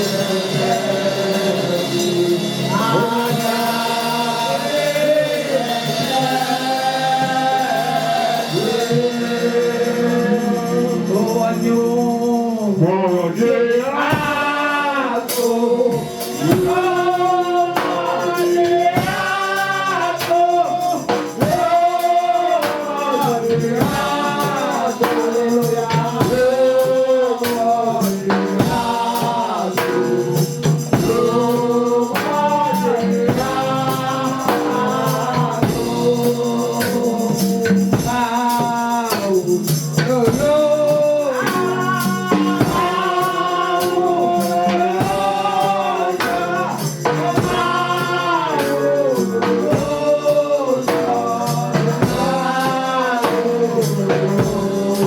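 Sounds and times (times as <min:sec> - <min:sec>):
congregation singing worship song: 0:00.0 - 0:55.0
instrumental backing: 0:00.0 - 0:55.0
percussion beat: 0:00.0 - 0:55.0.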